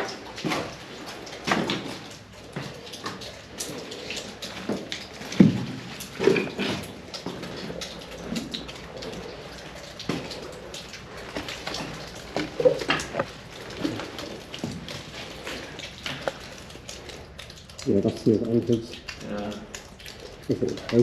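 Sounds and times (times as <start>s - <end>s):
water dripping and splashing: 0.0s - 21.0s.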